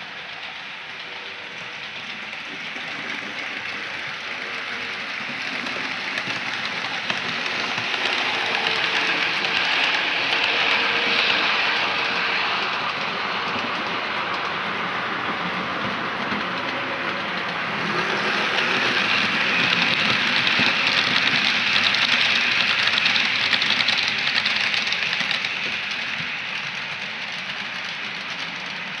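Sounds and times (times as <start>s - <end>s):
model train running: 0.0s - 29.0s.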